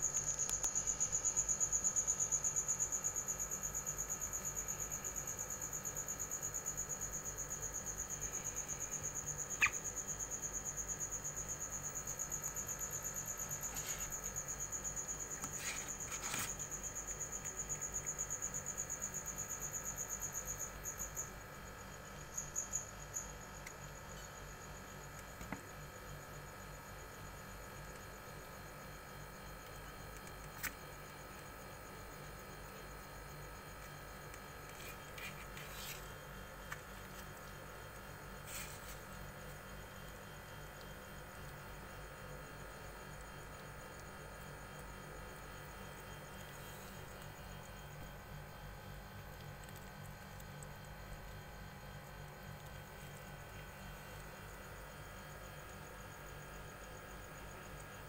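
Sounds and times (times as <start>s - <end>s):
high-pitched insect trill: 0.0s - 58.0s.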